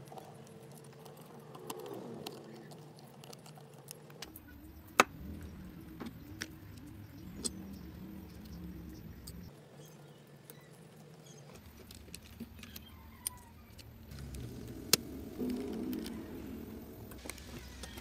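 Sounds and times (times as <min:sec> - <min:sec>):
low steady hum: 0:00.0 - 0:18.0
metallic clicks of small parts: 0:00.0 - 0:18.0.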